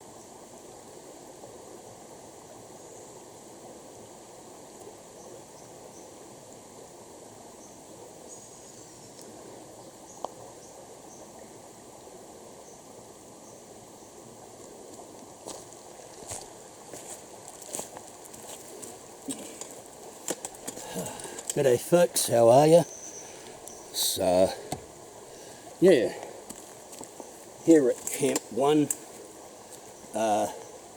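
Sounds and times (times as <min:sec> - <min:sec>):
flowing water: 0:00.0 - 0:30.9.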